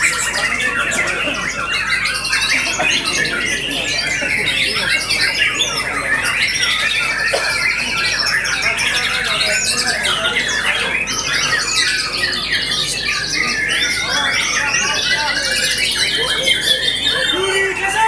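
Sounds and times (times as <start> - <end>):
birds singing in chorus: 0.0 - 18.0.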